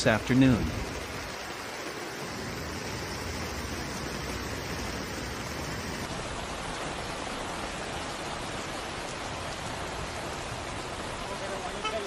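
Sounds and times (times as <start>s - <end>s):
heavy rain: 0.0s - 12.0s
rushing floodwater: 0.0s - 12.0s.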